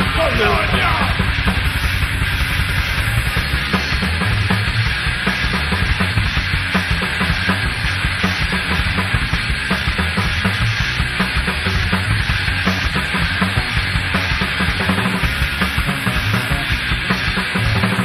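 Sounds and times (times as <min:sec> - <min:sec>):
punk band playing live: 0:00.0 - 0:18.0.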